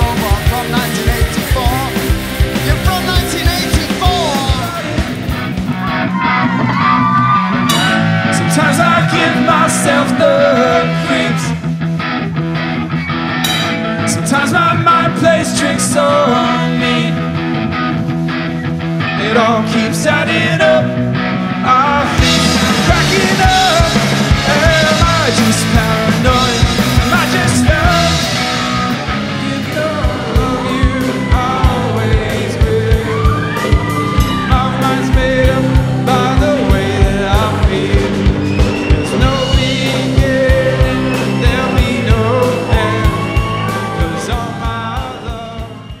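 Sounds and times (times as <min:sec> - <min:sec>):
person singing: 0:00.0 - 0:05.4, 0:07.7 - 0:11.7, 0:13.8 - 0:17.4, 0:19.0 - 0:46.0
drum kit beat: 0:00.0 - 0:12.2, 0:13.4 - 0:15.0, 0:22.0 - 0:46.0
rock band playing: 0:00.0 - 0:46.0.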